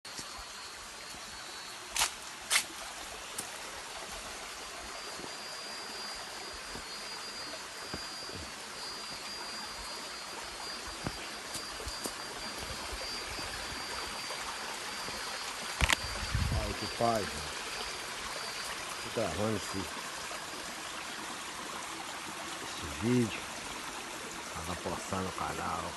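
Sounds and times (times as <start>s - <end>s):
water running over rock: 0.1s - 25.9s.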